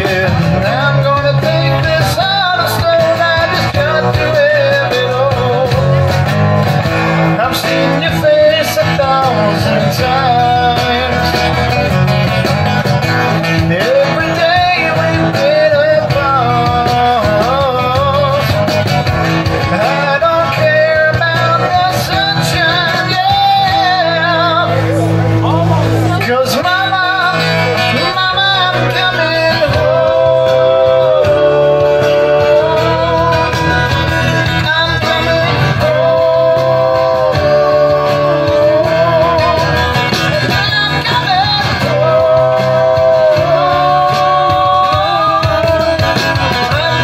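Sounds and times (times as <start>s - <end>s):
acoustic guitars strumming: 0.0s - 47.0s
bending guitar melody: 0.0s - 47.0s.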